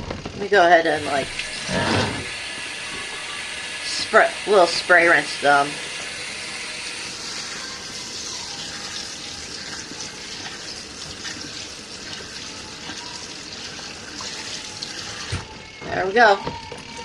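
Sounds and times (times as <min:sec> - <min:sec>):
water spraying into a tub: 0:00.5 - 0:15.5.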